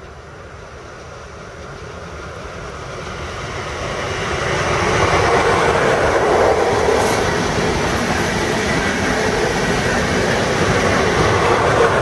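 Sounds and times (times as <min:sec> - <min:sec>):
train passing wheel rumble: 0:00.0 - 0:12.0.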